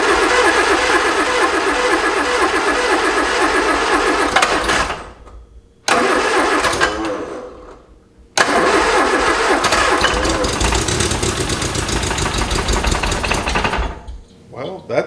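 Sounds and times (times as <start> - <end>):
starter motor cranking engine: 0.0 - 5.2, 5.9 - 7.8, 8.4 - 14.3.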